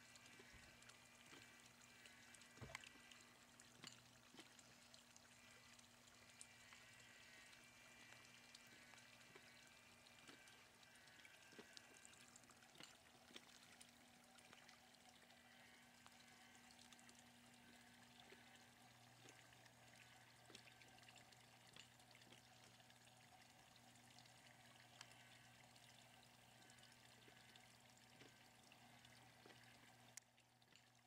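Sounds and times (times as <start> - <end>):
faint steady hum and hiss: 0.0 - 31.0.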